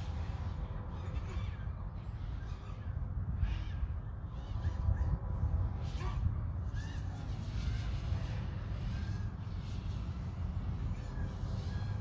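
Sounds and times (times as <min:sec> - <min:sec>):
harsh bird calls: 0:00.0 - 0:12.0
wind rumble on microphone: 0:00.0 - 0:12.0.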